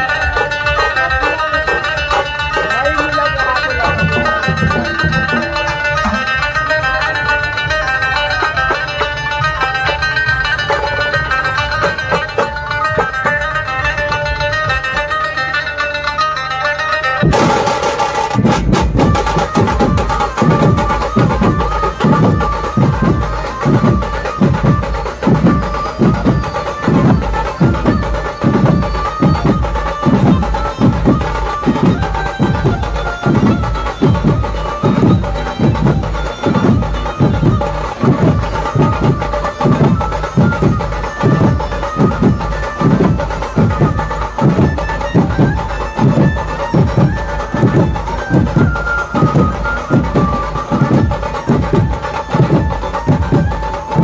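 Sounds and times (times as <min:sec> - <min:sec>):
heavy drum beat: 0:00.0 - 0:14.5, 0:17.2 - 0:54.0
band over loudspeakers: 0:00.0 - 0:54.0.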